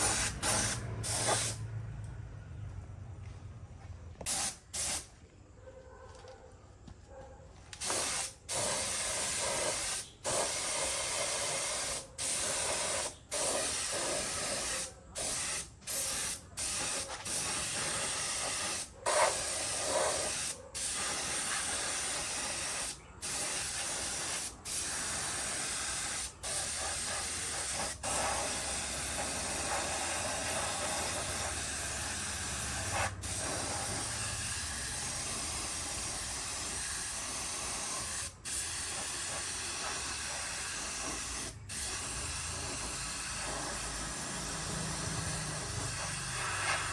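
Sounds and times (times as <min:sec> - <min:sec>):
spray gun hissing: 0:00.0 - 0:01.6, 0:04.3 - 0:05.1, 0:07.8 - 0:46.9.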